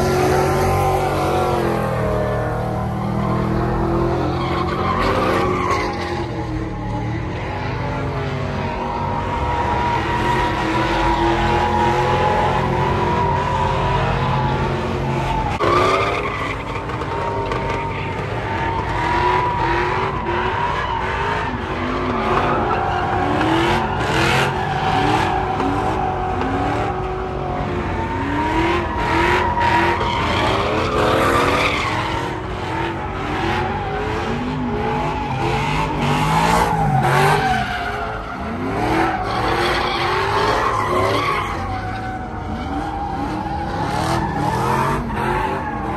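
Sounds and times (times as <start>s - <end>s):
truck engines revving hard: 0.0s - 45.9s.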